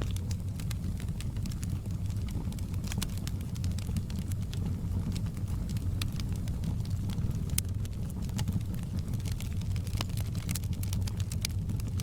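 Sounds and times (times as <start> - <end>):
fire pops and snaps: 0.0 - 12.0
low fire rumble: 0.0 - 12.0.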